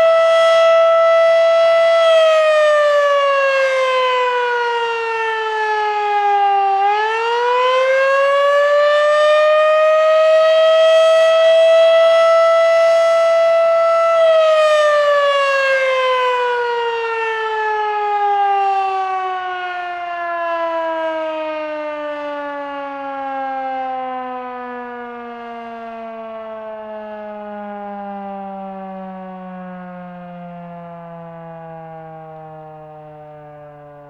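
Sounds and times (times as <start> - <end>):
warning siren winding down: 0.0 - 34.0.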